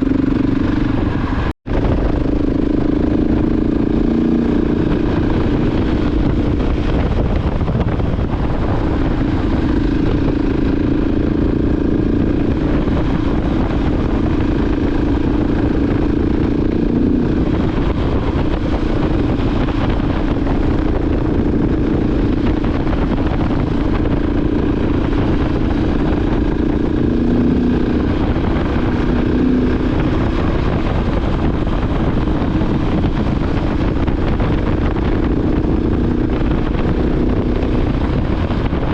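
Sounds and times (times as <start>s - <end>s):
motorcycle engine running steadily: 0.0s - 38.9s
wind rushing: 0.0s - 38.9s.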